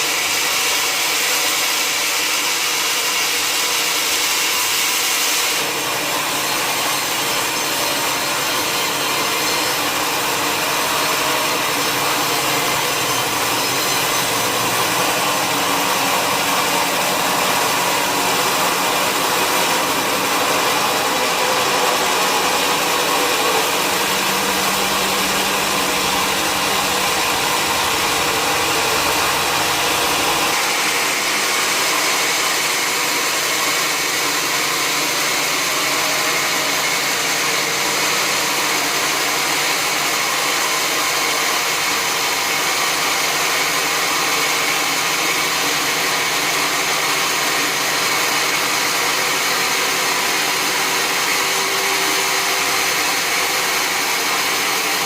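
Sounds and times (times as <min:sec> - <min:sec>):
saw cutting through log: 0:00.0 - 0:55.0.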